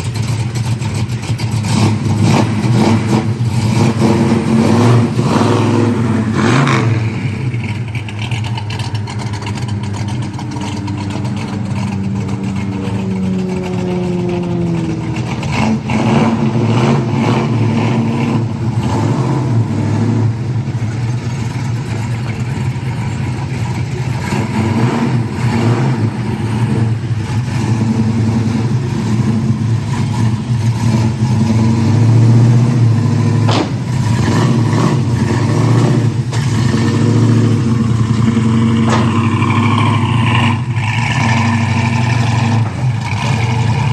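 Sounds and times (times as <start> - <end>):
engine revving: 0.0 - 43.9.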